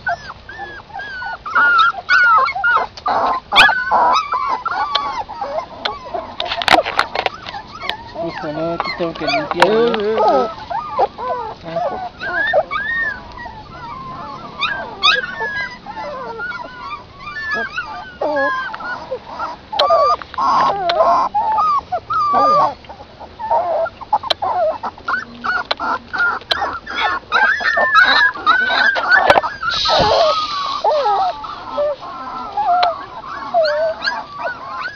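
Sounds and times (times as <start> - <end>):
puppies whimpering and squeaking: 0.0 - 34.9.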